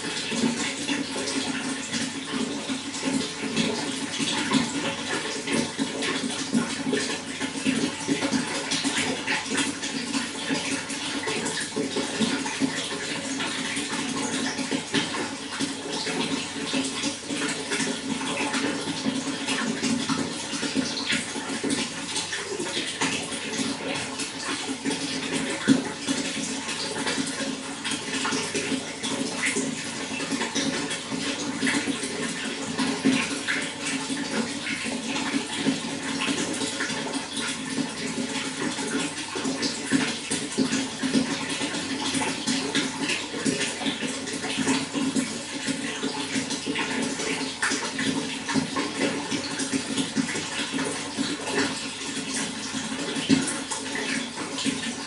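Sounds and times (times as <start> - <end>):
low water gurgle: 0.0 - 55.0
running water splashing: 0.0 - 55.0.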